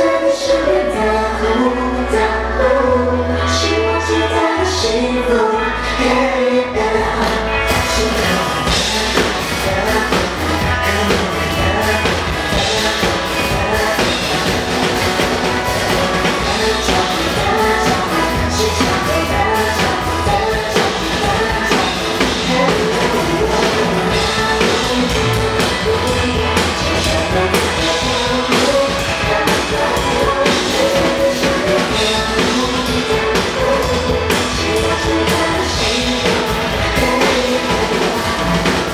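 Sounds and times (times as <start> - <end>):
pop-rock song with vocals: 0.0 - 38.9
drum kit playing: 6.9 - 38.9.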